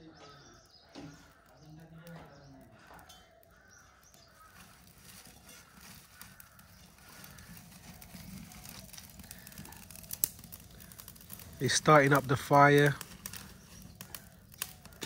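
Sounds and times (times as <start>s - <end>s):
wood fire crackling and snapping: 0.0s - 15.0s.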